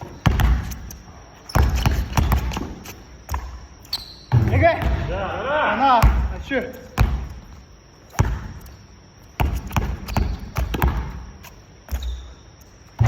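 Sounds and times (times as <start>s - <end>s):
basketball bouncing on gym floor: 0.0s - 5.3s, 6.0s - 8.8s, 9.4s - 12.3s.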